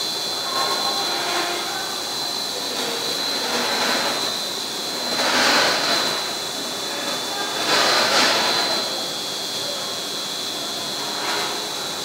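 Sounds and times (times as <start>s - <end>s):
extrusion machine whining: 0.0s - 12.0s.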